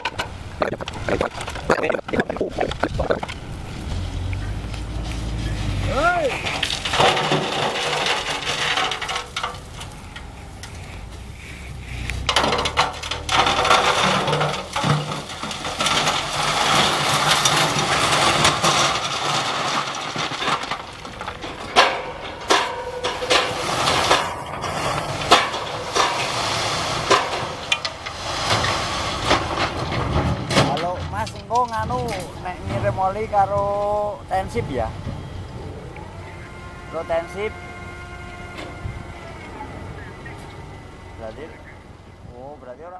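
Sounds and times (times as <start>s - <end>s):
rocks sliding and clattering: 0.0s - 34.8s.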